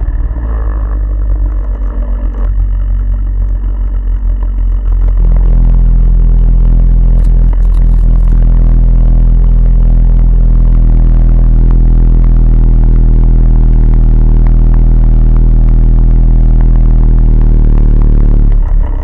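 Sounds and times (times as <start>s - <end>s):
clatter: 0.0s - 19.0s
snowmobile engine running: 0.0s - 19.0s.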